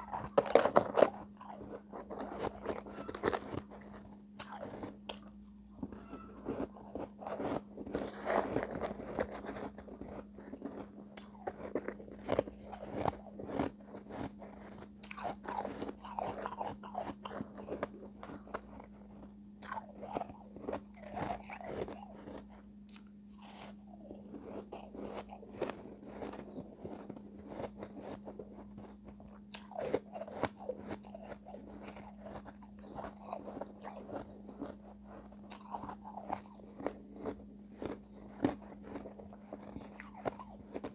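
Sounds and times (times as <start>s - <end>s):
crunching ice: 0.0s - 5.2s, 5.9s - 18.8s, 19.6s - 22.5s, 23.4s - 40.9s
steady low hum: 0.0s - 40.9s.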